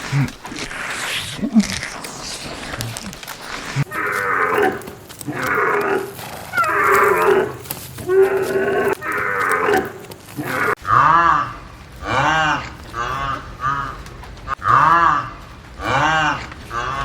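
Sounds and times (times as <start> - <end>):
livestock calling: 0.0 - 17.0.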